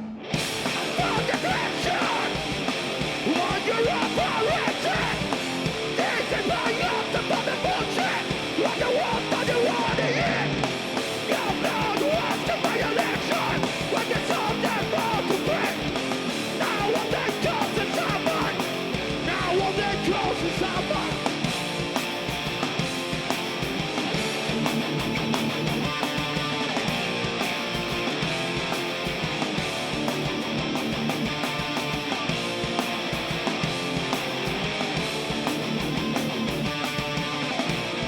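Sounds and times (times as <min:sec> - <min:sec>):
distorted electric guitars: 0:00.0 - 0:38.0
drums: 0:00.0 - 0:38.0
yelled vocals: 0:00.4 - 0:38.0.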